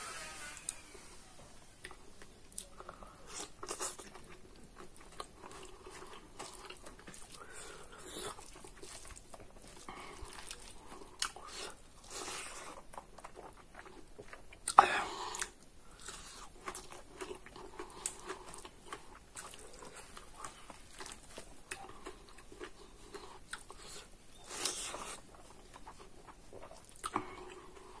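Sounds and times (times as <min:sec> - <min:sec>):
person chewing food: 0:01.8 - 0:28.0.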